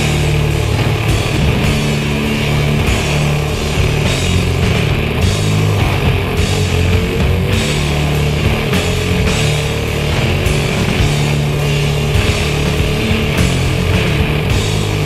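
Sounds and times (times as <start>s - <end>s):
rock music with heavy beat: 0.0s - 15.0s.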